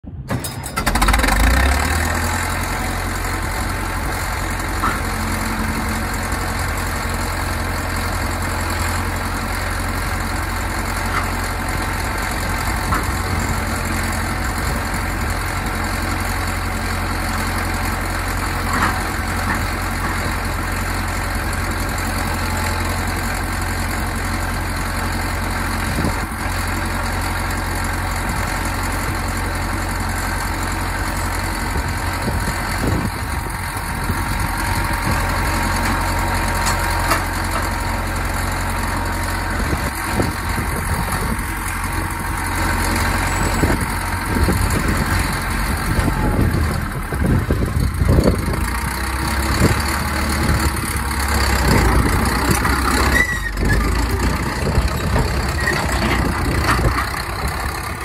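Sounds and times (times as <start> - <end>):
diesel engine idling: 0.1 - 58.0.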